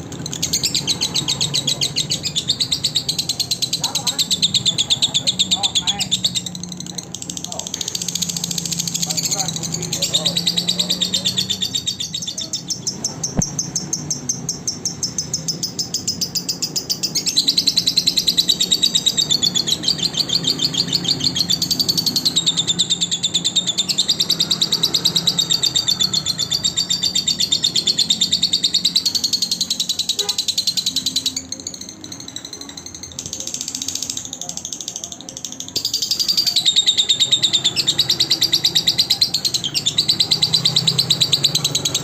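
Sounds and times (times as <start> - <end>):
lovebird chattering trill: 0.0 - 42.0.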